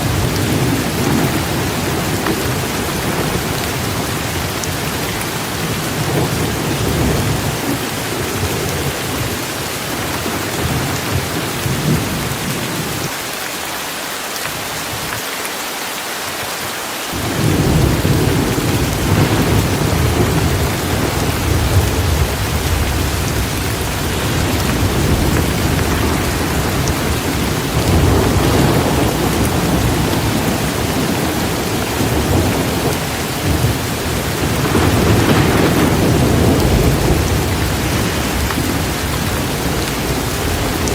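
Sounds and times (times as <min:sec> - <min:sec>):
rolling thunder: 0:00.0 - 0:13.1, 0:17.2 - 0:40.9
torrential rain: 0:00.0 - 0:40.9.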